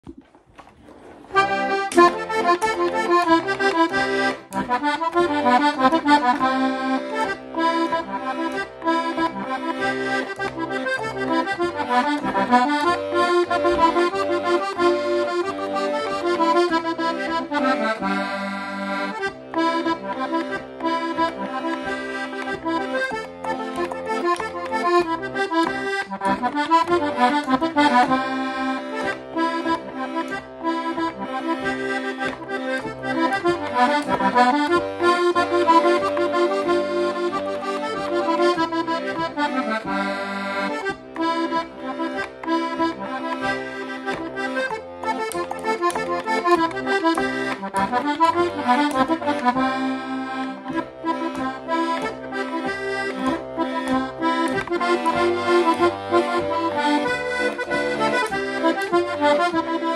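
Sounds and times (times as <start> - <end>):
button accordion playing folk reel: 0.9 - 59.9.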